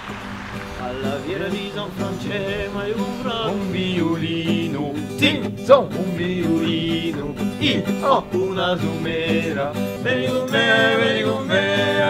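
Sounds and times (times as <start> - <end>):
acoustic guitar country song: 0.0 - 12.0.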